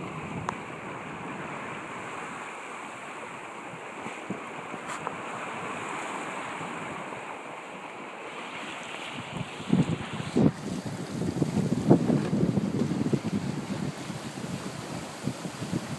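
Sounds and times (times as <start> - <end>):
wind on microphone: 0.0 - 7.3, 8.4 - 15.9
water washing along hull: 0.0 - 15.9.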